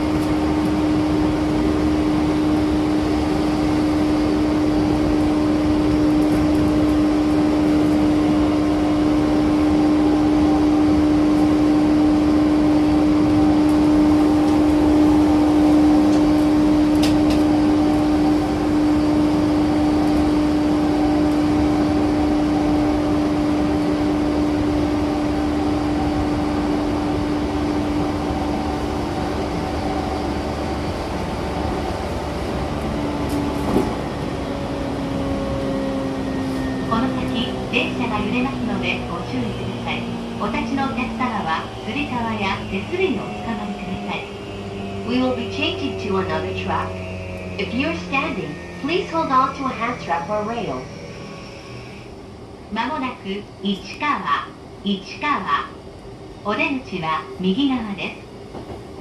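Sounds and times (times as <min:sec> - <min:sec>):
wheel and rail rumble: 0:00.0 - 0:54.8, 0:55.4 - 0:59.0
train motor hum: 0:00.0 - 0:59.0.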